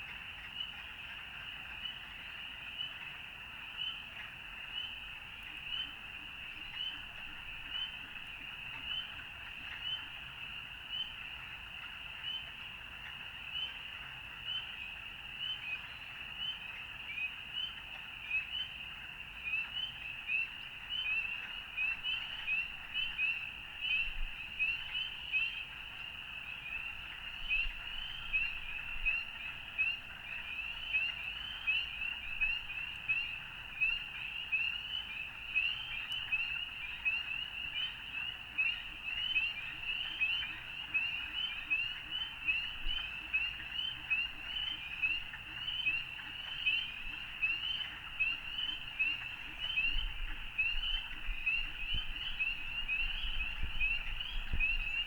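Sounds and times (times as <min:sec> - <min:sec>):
frog chorus: 0:00.0 - 0:55.0.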